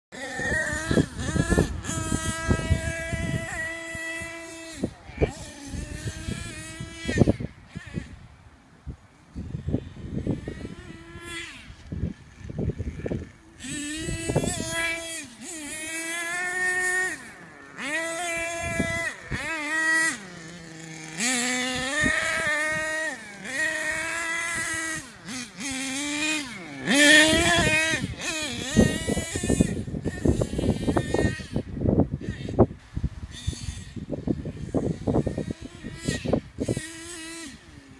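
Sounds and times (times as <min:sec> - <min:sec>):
small engine revving whine: 0:00.1 - 0:37.9.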